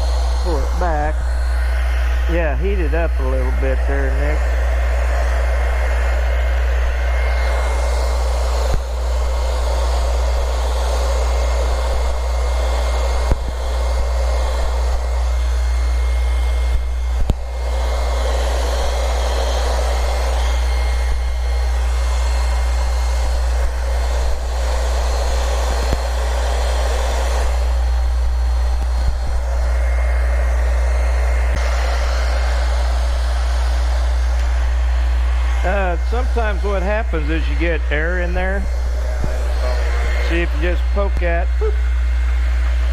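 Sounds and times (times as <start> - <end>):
heat gun blowing: 0.0 - 42.9.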